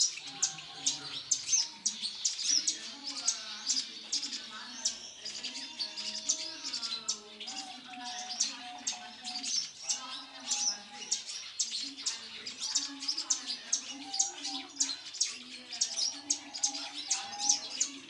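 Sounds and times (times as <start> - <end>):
parakeets chirping: 0.0 - 18.0.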